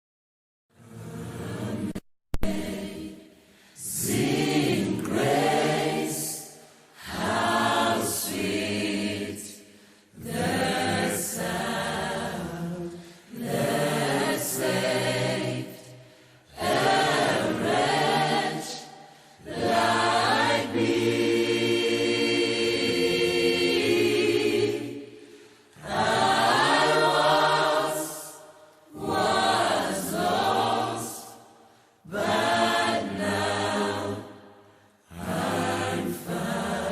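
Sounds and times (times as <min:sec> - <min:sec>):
choir singing a slow hymn: 0:00.8 - 0:36.9.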